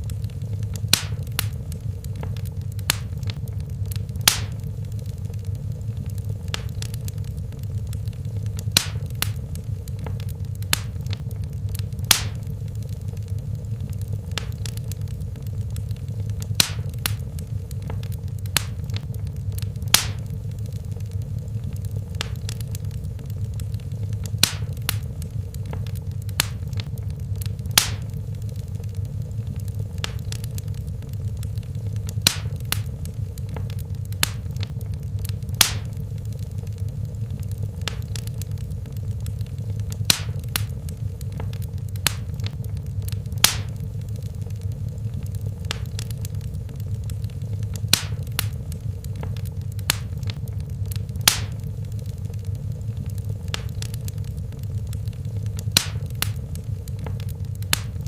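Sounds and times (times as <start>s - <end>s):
fire crackling and popping: 0.0s - 58.0s
flames rumbling: 0.0s - 58.0s.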